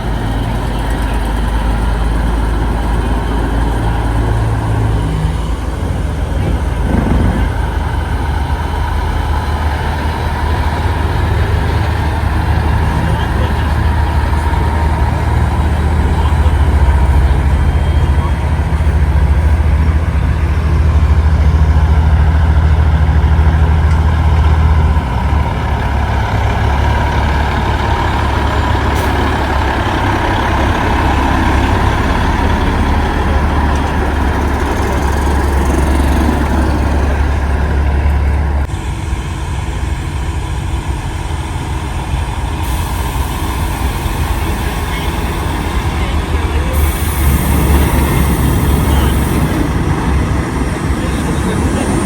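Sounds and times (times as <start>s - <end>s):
truck diesel engines droning: 0.0s - 52.0s.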